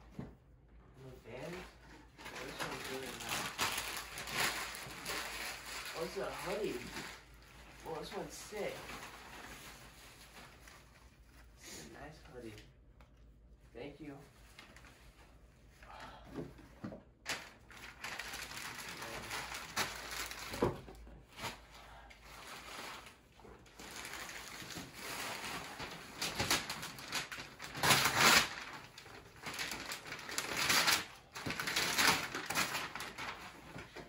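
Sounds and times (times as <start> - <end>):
wrapping paper rustling: 1.3 - 12.5, 14.1 - 15.8, 17.1 - 34.0.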